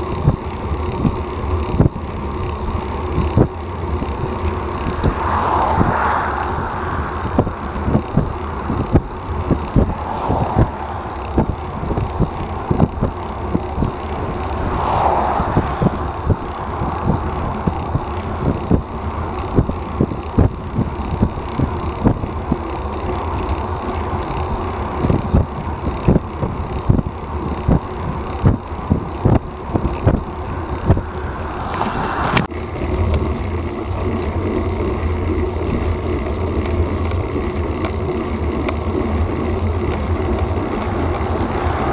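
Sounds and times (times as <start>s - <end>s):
bicycle road noise: 0.0s - 41.9s
wind noise on microphone: 0.0s - 41.9s.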